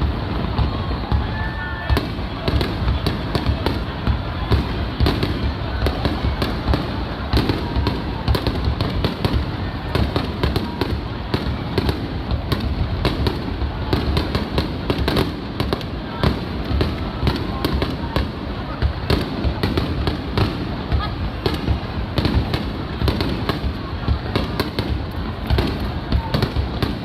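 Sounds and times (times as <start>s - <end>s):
fireworks bangs and crackles: 0.0s - 27.0s
fireworks rumbling booms: 0.0s - 27.0s.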